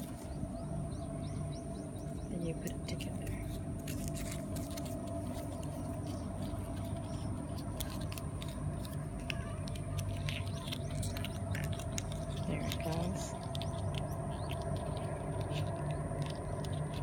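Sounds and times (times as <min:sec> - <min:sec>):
steady low hum: 0:00.0 - 0:17.0
paper box crinkling and clicking: 0:03.0 - 0:17.0.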